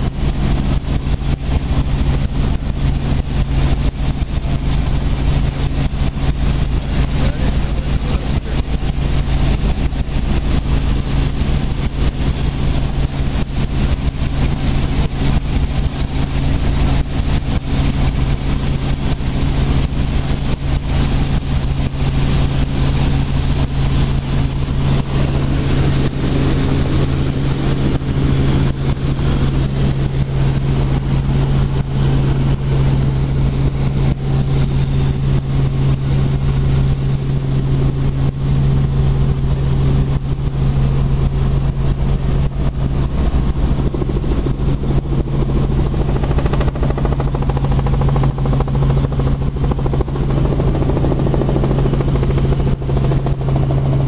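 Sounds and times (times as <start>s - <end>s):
helicopter engine and rotors drone: 0.0s - 54.0s.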